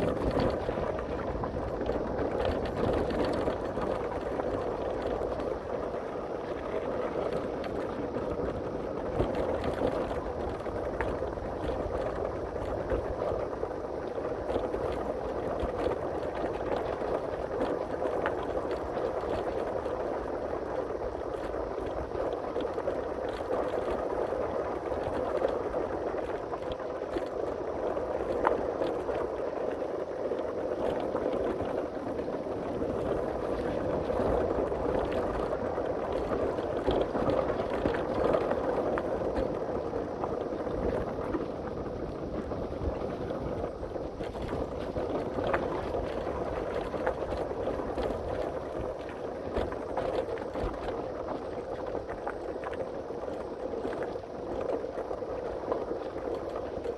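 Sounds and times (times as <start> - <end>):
rushing wind: 0.0 - 56.9.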